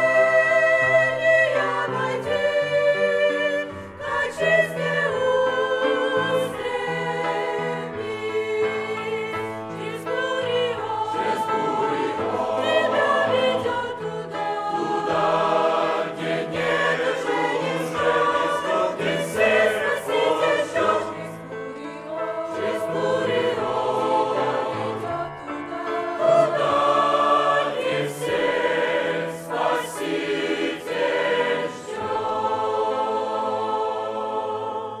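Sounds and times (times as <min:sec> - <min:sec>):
choir singing a hymn: 0:00.0 - 0:35.0.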